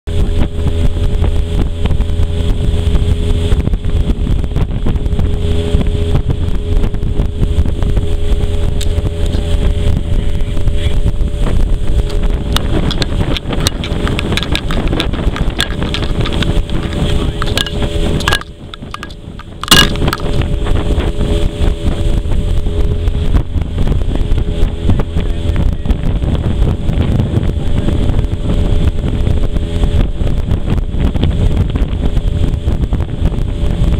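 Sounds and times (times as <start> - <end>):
outboard motor running: 0.1 - 33.9
wind buffeting microphone: 0.1 - 33.9.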